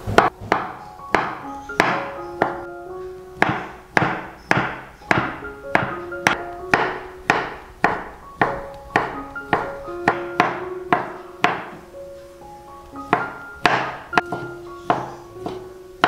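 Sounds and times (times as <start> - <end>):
light background music: 0.0 - 16.0
knife chopping on wooden board: 0.1 - 2.6, 3.4 - 11.8, 13.1 - 15.7.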